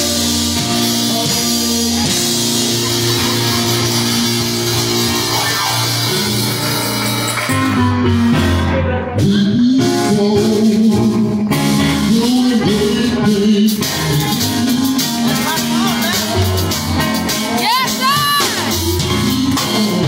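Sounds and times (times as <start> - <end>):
man singing: 0.0 - 4.1, 5.0 - 20.0
electronic keyboard chords: 0.0 - 20.0.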